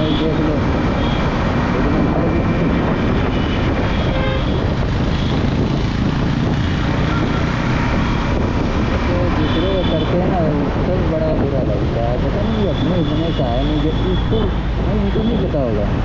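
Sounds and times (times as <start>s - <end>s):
wind on microphone: 0.0s - 15.1s
motorcycle engine cruising: 0.0s - 15.2s.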